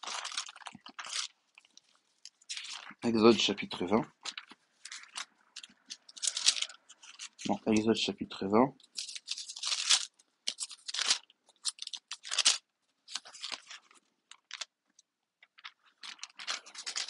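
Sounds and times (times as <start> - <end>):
paper pages flipping: 0.0 - 8.0, 8.9 - 14.7, 15.4 - 17.0.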